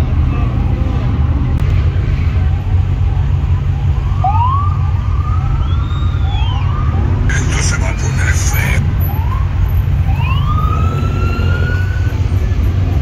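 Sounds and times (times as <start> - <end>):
distant police sirens wailing: 2.4 - 13.0.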